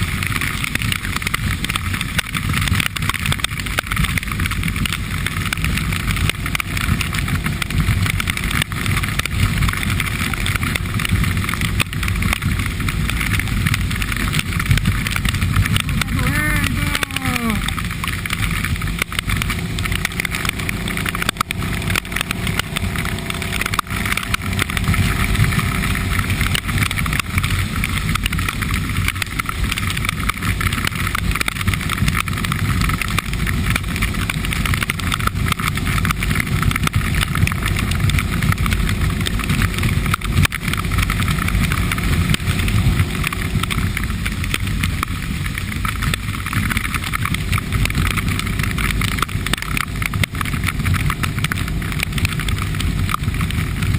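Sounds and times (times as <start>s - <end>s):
motorcycle engine rumble: 0.0s - 53.9s
road noise: 0.0s - 53.9s.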